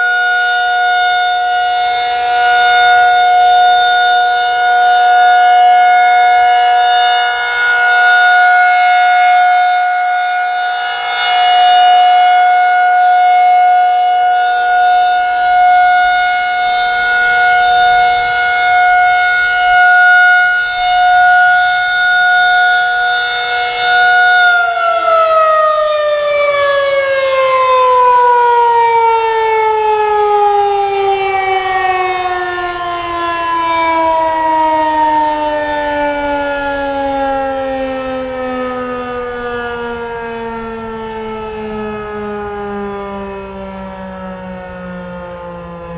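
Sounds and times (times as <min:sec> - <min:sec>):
outdoor warning siren: 0:00.0 - 0:45.9.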